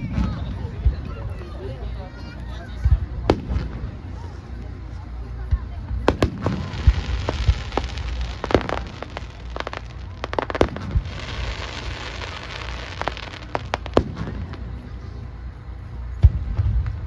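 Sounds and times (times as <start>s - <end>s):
fireworks bangs: 0.0s - 1.8s, 2.6s - 17.0s
crackling hiss of fireworks: 0.0s - 17.0s.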